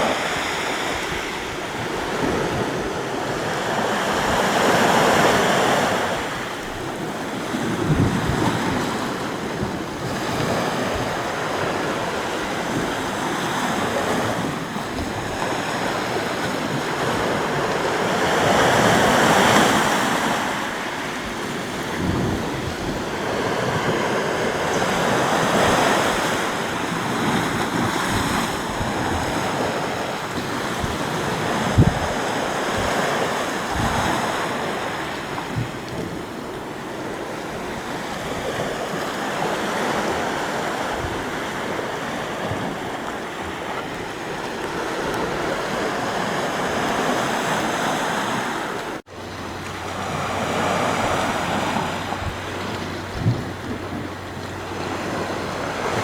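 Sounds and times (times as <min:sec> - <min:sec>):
sea waves breaking on shore: 0:00.0 - 0:56.0
wind buffeting microphone: 0:00.0 - 0:56.0.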